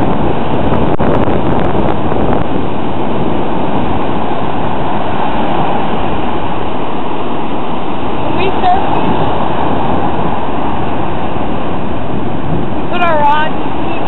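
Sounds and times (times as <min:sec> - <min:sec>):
surf breaking: 0:00.0 - 0:14.0
wind buffeting microphone: 0:00.0 - 0:14.0.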